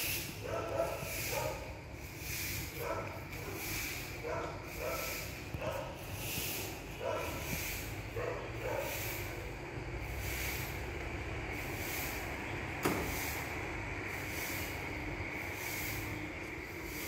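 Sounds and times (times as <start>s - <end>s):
machine humming and hissing: 0.0s - 17.0s.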